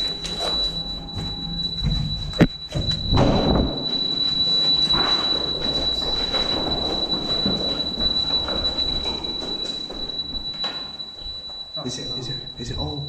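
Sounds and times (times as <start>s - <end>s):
high-pitched warning tone: 0.0s - 13.0s.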